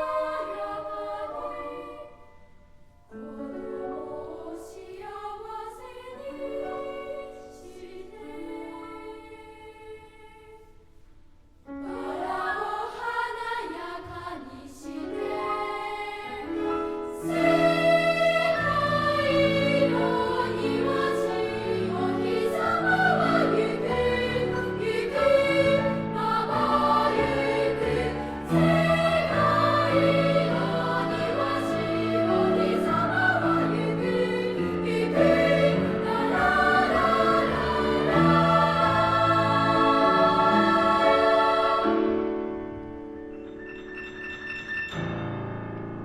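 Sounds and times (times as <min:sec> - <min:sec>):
children's choir singing: 0:00.0 - 0:10.7, 0:11.7 - 0:42.7.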